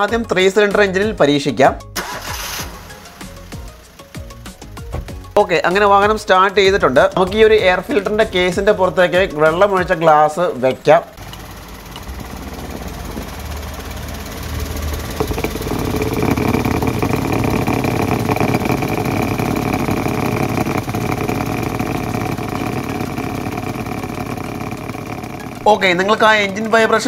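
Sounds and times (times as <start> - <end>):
car engine idling: 2.0 - 27.0.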